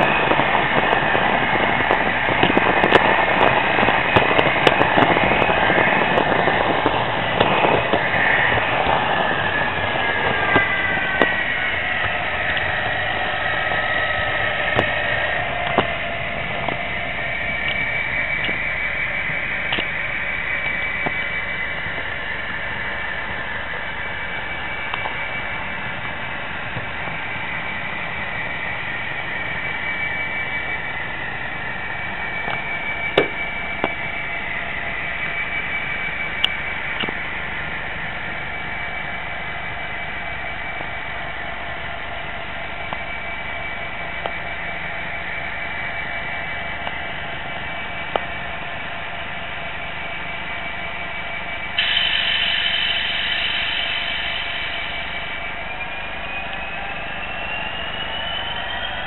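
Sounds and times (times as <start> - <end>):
model train whine: 0.0 - 59.0.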